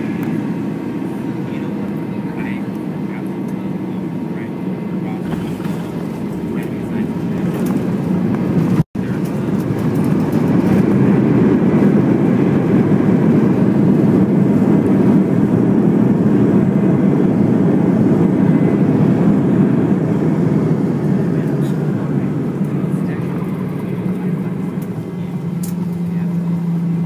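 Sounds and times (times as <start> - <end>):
airliner engine rumble in cabin: 0.0 - 27.0.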